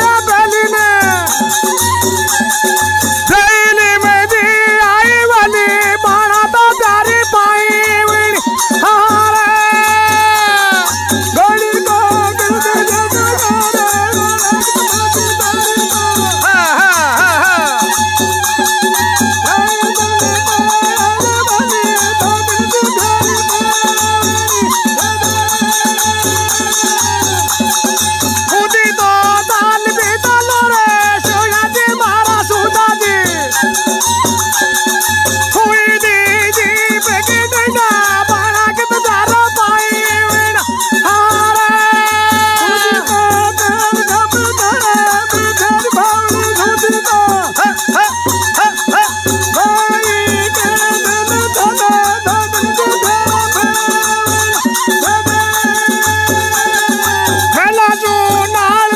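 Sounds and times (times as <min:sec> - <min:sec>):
double flute folk melody: 0:00.0 - 0:06.9, 0:07.7 - 0:36.9, 0:37.8 - 0:58.9
barrel drum beat: 0:00.0 - 0:58.9
rapid rattling hand percussion: 0:00.0 - 0:58.9.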